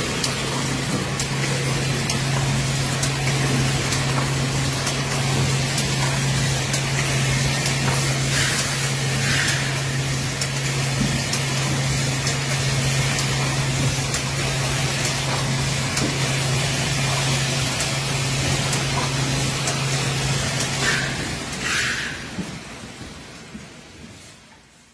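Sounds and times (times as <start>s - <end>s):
machine motor hum: 0.0s - 23.3s.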